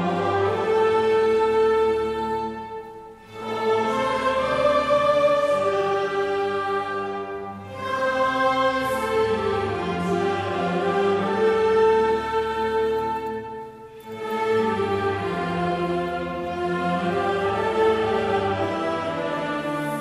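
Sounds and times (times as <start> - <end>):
choir and orchestra playing slow piece: 0.0 - 20.0.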